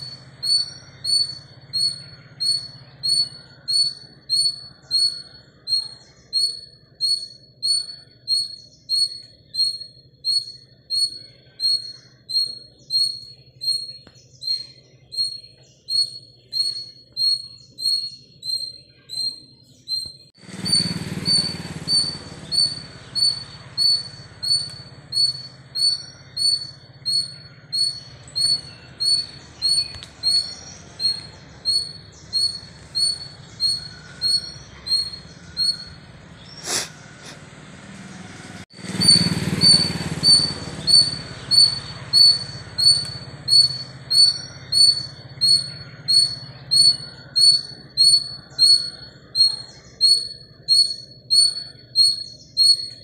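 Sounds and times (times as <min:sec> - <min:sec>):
small bird chirping: 0:00.0 - 0:53.0.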